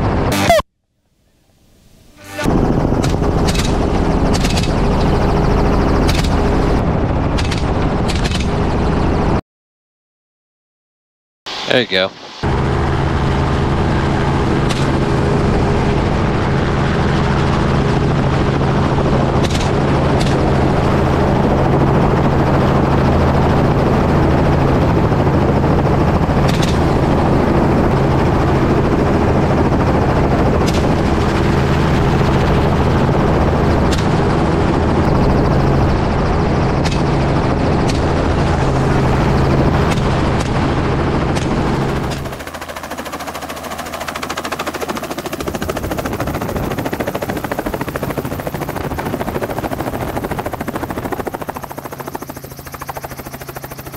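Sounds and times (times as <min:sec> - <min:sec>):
helicopter rotor drone: 0:00.0 - 0:00.6, 0:01.9 - 0:09.4, 0:11.5 - 0:53.9.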